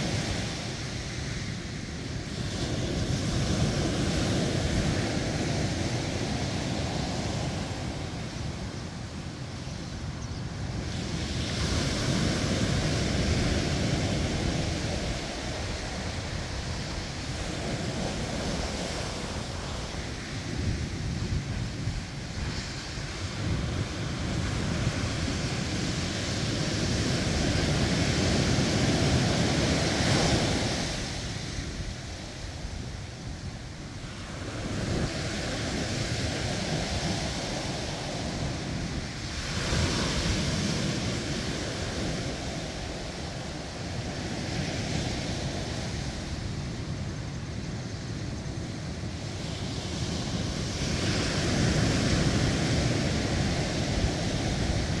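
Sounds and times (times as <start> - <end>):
surf breaking on beach: 10.5 - 55.0.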